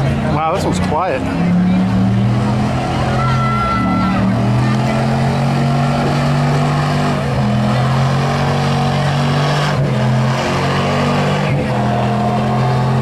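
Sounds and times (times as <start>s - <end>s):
pulling vehicle engine droning: 0.0s - 13.0s.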